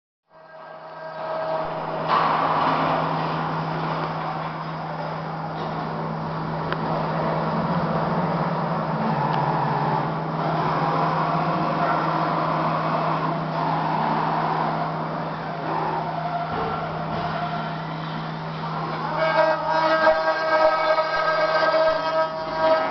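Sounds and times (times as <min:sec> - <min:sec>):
machine low hum: 0:00.3 - 0:22.9.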